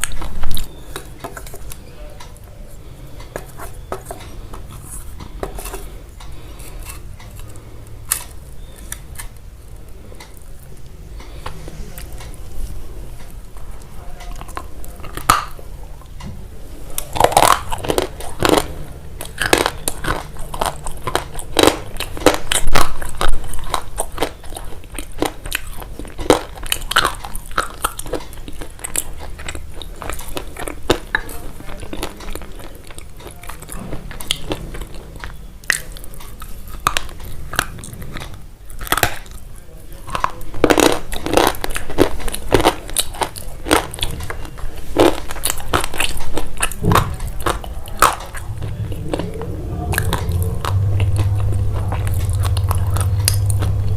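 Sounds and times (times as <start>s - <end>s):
crunchy food being chewed: 0.0s - 53.9s.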